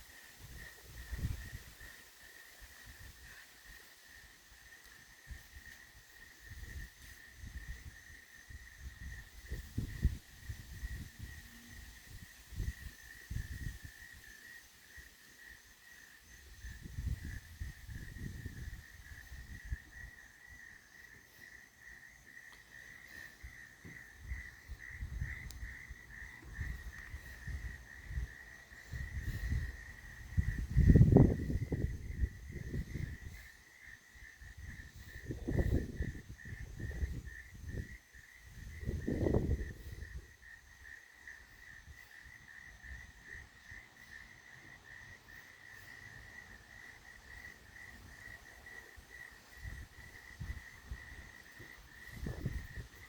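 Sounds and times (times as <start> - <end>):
insect pulsing chirp: 0.0 - 53.0
wind buffeting microphone: 0.4 - 2.0, 4.6 - 14.3, 16.4 - 44.2, 46.0 - 53.0.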